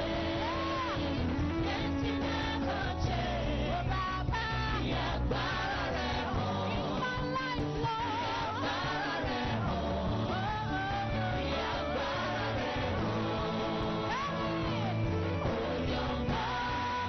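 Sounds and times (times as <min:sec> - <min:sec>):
people singing: 0:00.0 - 0:17.0
worship band playing: 0:00.0 - 0:17.0.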